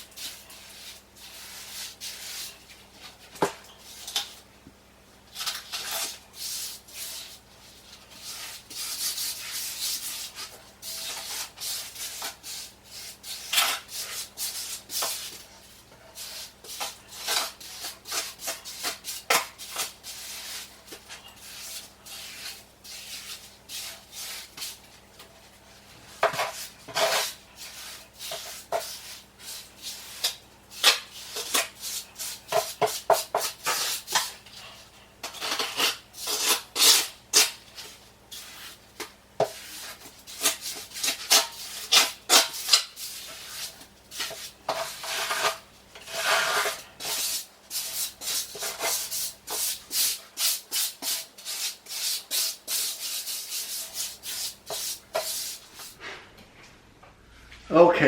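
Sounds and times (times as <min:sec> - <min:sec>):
trowel scraping mortar: 0:00.0 - 0:03.2, 0:05.3 - 0:24.9, 0:26.1 - 0:56.1.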